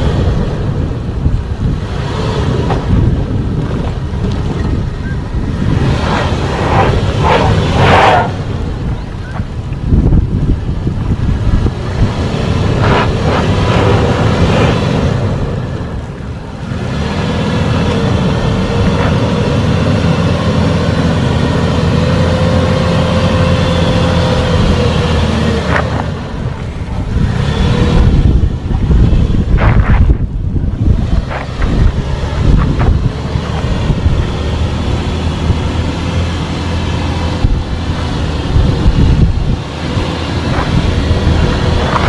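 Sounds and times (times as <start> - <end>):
vehicle engine driving off-road: 0.0 - 42.0.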